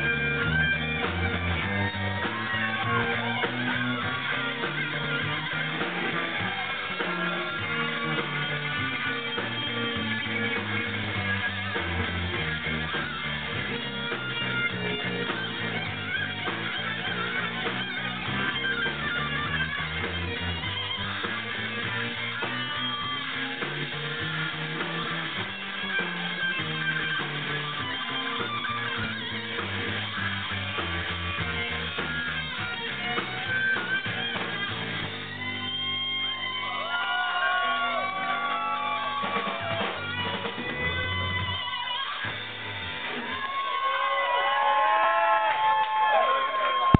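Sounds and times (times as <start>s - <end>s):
high bending guitar melody: 0.0s - 43.7s
live rock band playing: 0.0s - 46.9s.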